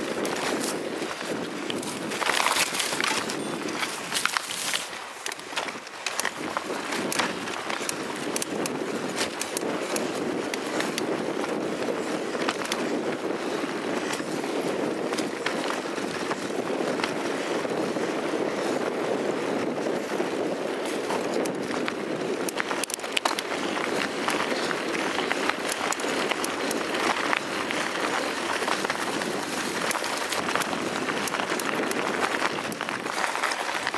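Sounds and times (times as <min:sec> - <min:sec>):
bike clicks and rattles: 0:00.0 - 0:33.9
bike tyres rolling on dirt: 0:00.0 - 0:33.9.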